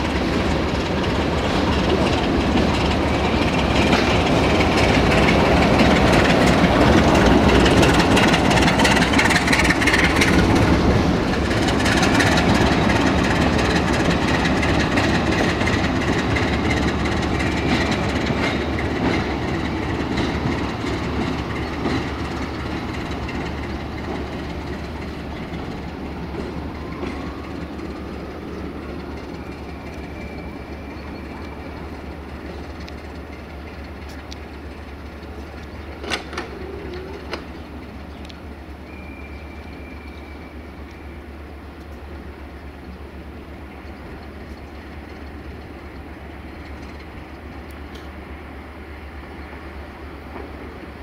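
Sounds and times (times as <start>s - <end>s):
train wheels clacking on rails: 0.0s - 41.1s, 41.8s - 48.4s.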